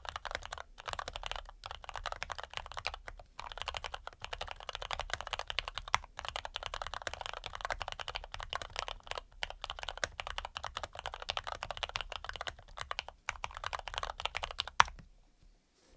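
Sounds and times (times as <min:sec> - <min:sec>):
fast mechanical keyboard typing: 0:00.0 - 0:15.0.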